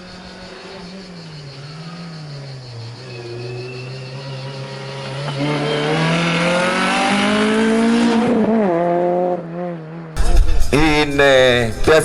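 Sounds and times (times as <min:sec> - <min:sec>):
race car engine accelerating: 0:00.0 - 0:11.1.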